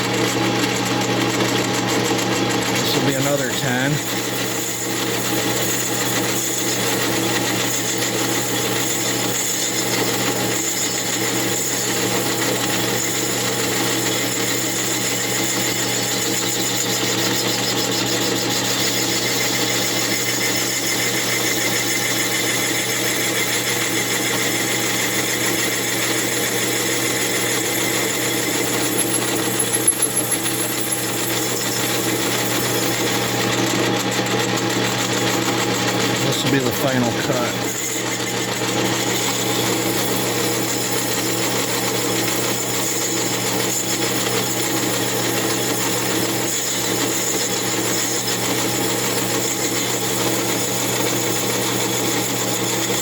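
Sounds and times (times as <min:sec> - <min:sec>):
metal lathe running: 0:00.0 - 0:53.0.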